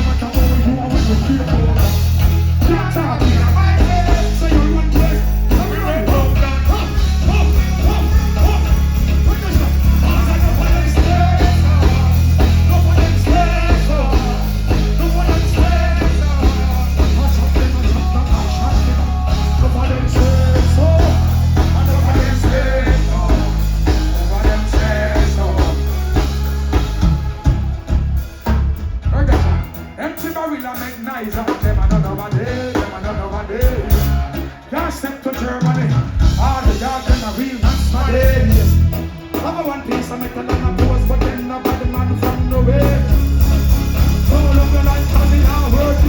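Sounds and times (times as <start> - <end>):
person singing: 0.0 - 28.4, 29.2 - 46.0
heavy bass line: 0.0 - 30.5, 31.6 - 46.0
live dancehall band music: 0.0 - 46.0.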